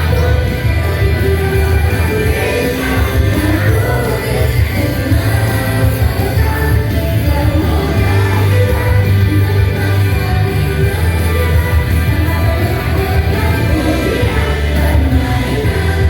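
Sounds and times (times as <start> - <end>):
heavy bass line: 0.0 - 16.0
live pop-rock band playing: 0.0 - 16.0
person singing: 0.0 - 16.0.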